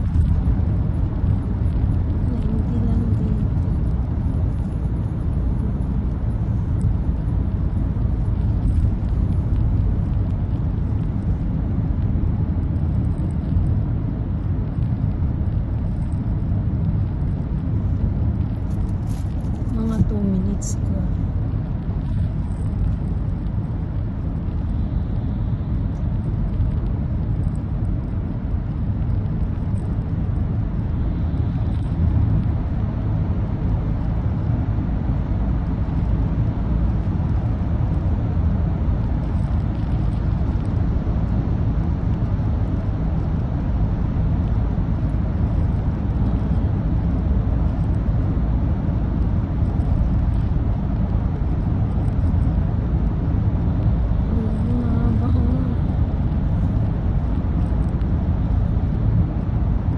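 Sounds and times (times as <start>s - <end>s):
car road noise rumble: 0.0s - 59.9s.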